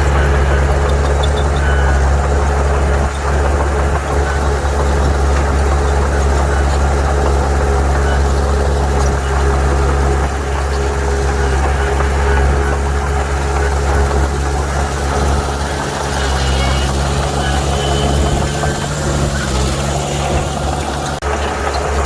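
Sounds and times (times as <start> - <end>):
heavy diesel engine droning: 0.0 - 22.0
thin steady whine: 0.0 - 22.0.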